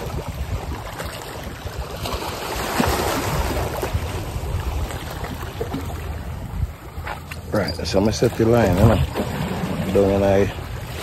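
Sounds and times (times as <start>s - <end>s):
small waves washing against rocks: 0.0s - 7.2s, 8.0s - 11.0s
wind buffeting microphone: 0.0s - 11.0s.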